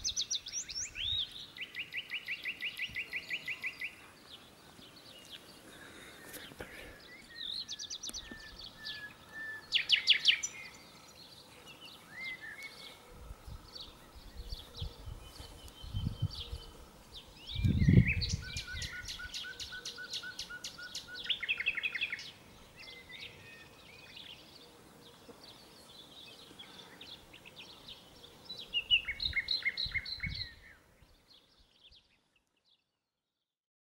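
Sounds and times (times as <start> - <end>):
songbirds singing and trilling: 0.0 - 32.9.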